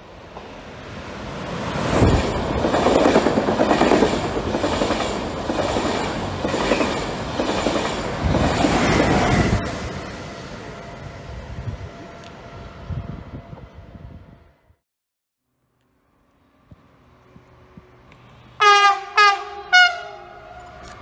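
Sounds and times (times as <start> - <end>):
train passing: 0.0 - 14.7, 15.8 - 21.0.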